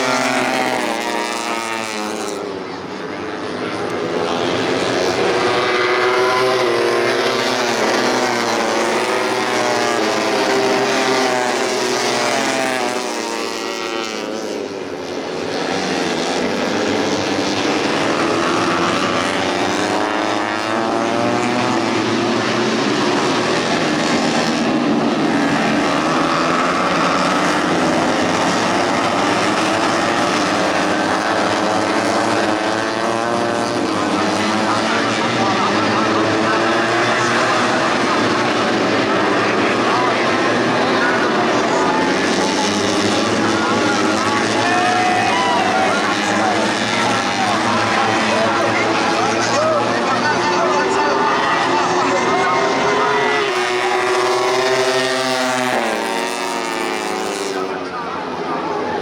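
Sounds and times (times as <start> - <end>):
racing motorcycles at high revs: 0.0 - 58.7.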